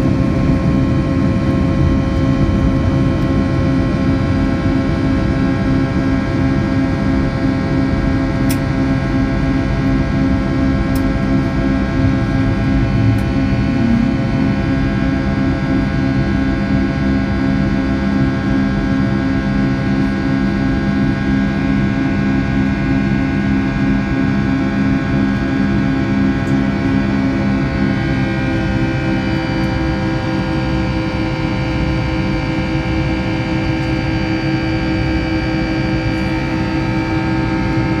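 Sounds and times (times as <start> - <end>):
jet engines droning: 0.0 - 38.0
pulsing low hum: 0.0 - 38.0.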